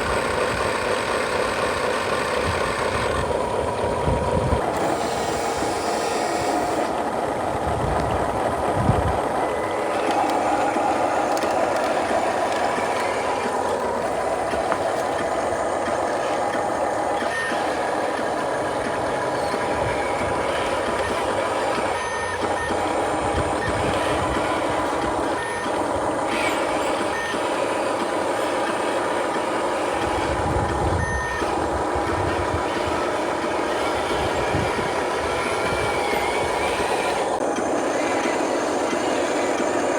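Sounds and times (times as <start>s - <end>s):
toy truck engine noise: 0.0s - 39.9s.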